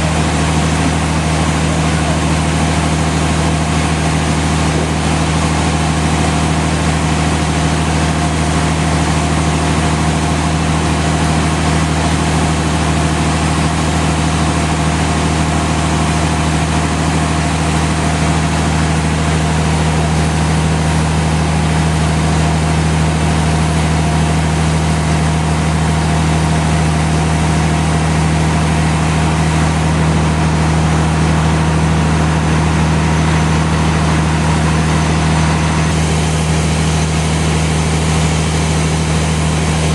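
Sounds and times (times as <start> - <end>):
sawmill motor hum: 0.0 - 39.9.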